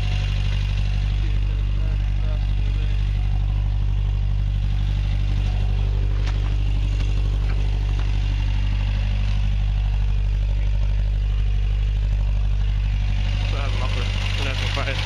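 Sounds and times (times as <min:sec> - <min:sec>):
old engine idling: 0:00.0 - 0:15.0.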